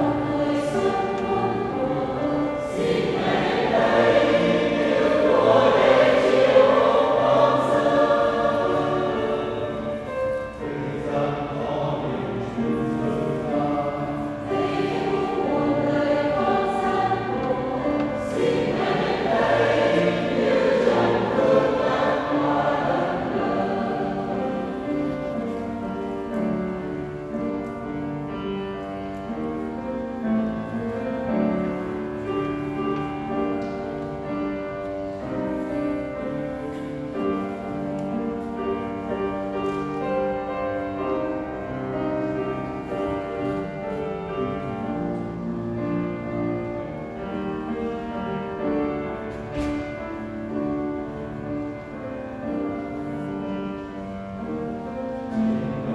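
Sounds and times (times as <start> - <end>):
choir singing a hymn: 0.0 - 55.9
piano accompaniment: 0.0 - 55.9.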